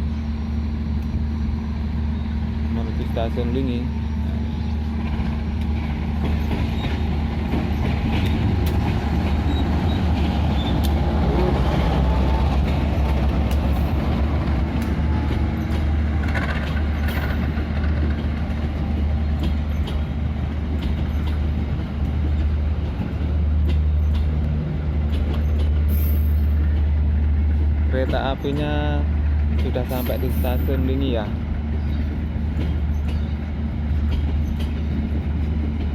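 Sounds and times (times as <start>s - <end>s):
locomotive engine drone: 0.0s - 35.9s
wheels clicking over rail joints: 5.0s - 26.9s, 27.5s - 35.9s.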